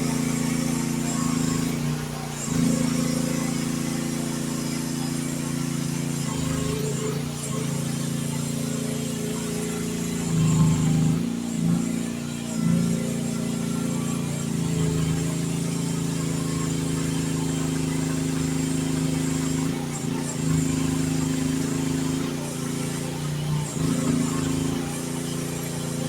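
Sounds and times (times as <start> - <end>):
excavator engine running: 0.0 - 26.0.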